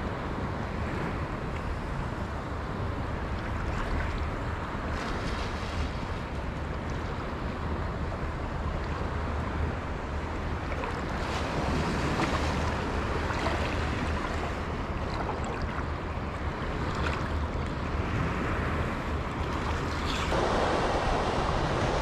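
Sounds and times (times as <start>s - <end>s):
wind buffeting the microphone: 3.0s - 22.0s
small waves lapping: 3.2s - 22.0s.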